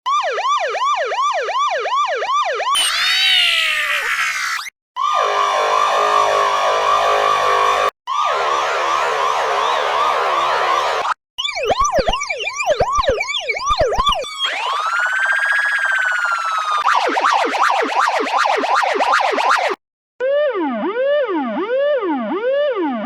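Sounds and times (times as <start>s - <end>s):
police siren: 0.1s - 23.0s.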